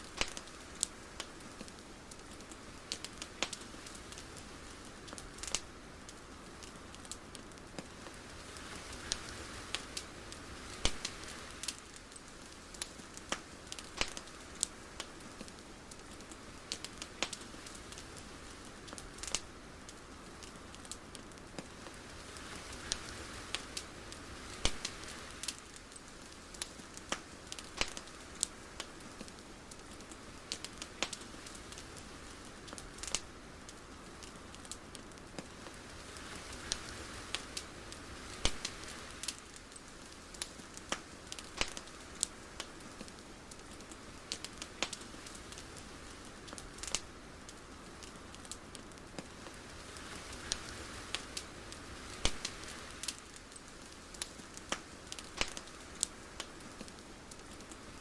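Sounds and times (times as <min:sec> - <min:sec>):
sharp crackles and pops: 0:00.0 - 0:58.0
soft swells of noise: 0:00.0 - 0:58.0
steady ambient hiss: 0:00.0 - 0:58.0.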